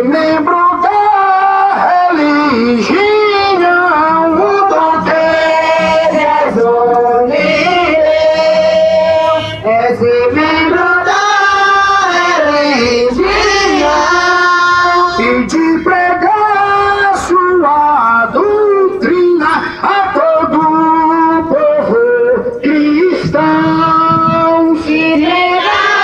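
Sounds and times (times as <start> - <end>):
group singing a hymn: 0.0 - 26.0.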